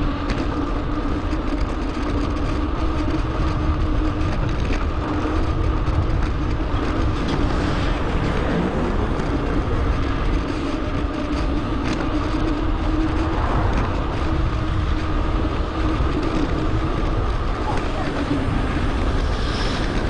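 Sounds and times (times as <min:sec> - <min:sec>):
wind and road rumble: 0:00.0 - 0:20.0.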